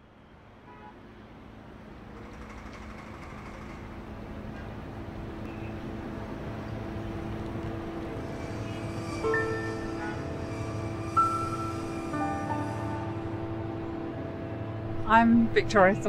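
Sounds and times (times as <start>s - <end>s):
urban traffic rumble: 0.0s - 16.0s.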